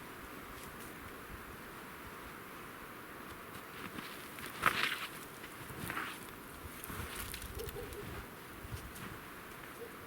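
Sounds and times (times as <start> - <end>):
steady wind noise: 0.0 - 9.8.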